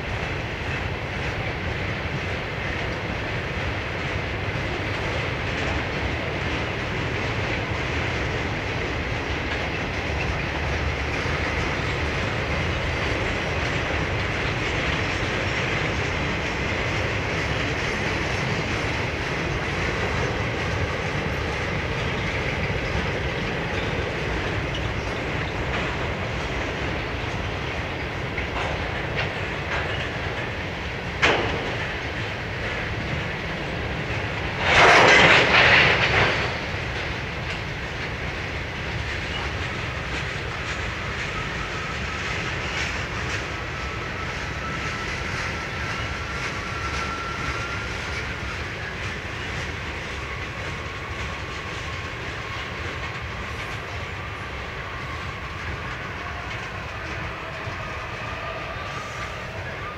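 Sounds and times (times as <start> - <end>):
freight train rumbling by: 0.0 - 59.9
wheel clickety-clack: 0.1 - 59.9.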